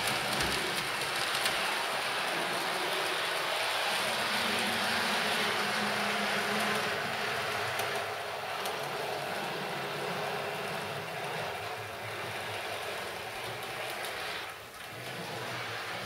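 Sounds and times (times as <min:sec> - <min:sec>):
model train motor whirring: 0:00.0 - 0:16.0
wheels running on track: 0:00.0 - 0:16.0.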